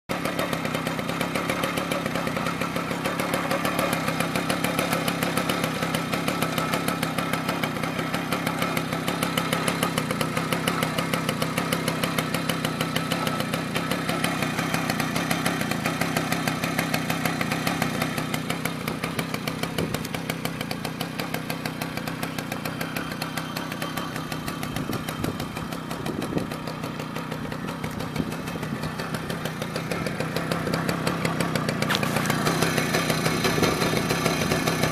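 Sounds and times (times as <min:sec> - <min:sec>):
moped engine idling: 0:00.1 - 0:34.9.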